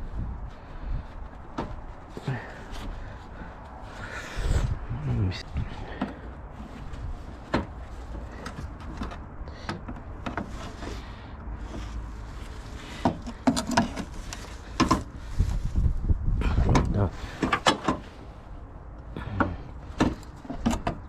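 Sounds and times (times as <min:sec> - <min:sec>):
hands handling car parts: 0:00.4 - 0:04.7, 0:05.4 - 0:15.8, 0:16.6 - 0:21.0.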